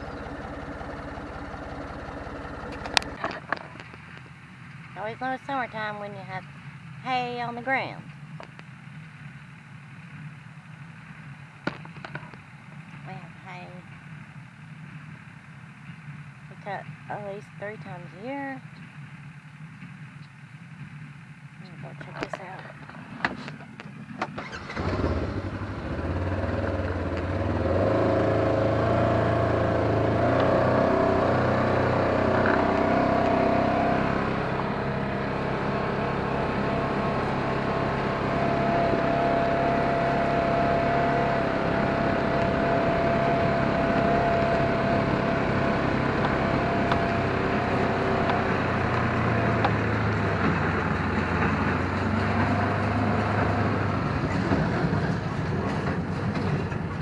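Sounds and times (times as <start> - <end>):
steady whine: 0.0 - 25.8, 29.4 - 51.8
engine running: 0.0 - 57.0.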